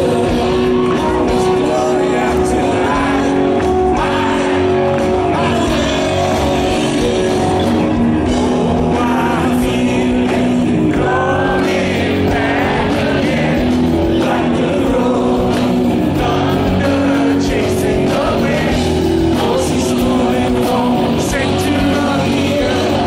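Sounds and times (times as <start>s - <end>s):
lead singer singing: 0.0s - 23.0s
live rock band playing: 0.0s - 23.0s.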